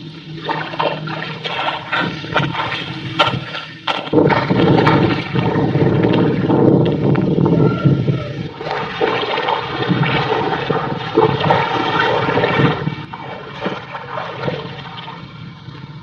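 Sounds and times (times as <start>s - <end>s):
muddy water splashing: 0.0s - 7.4s, 8.1s - 15.4s.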